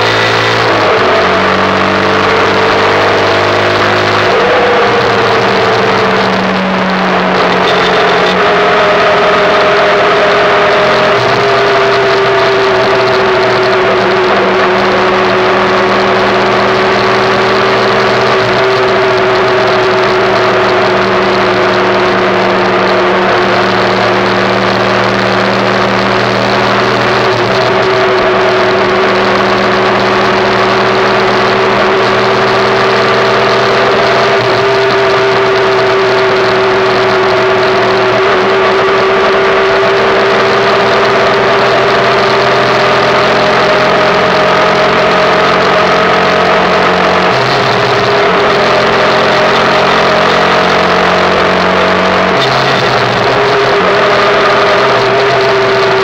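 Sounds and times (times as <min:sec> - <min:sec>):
motorcycle engine cruising: 0:00.0 - 0:56.0
wind and road noise: 0:00.0 - 0:56.0.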